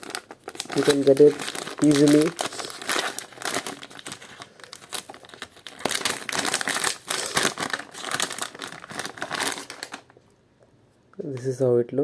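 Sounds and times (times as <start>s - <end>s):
packaging crinkling and rustling: 0.0s - 10.2s.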